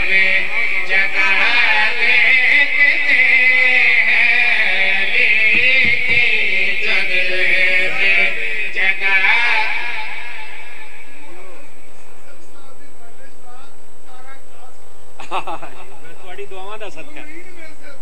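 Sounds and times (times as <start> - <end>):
man chanting through a microphone: 0.0 - 14.8.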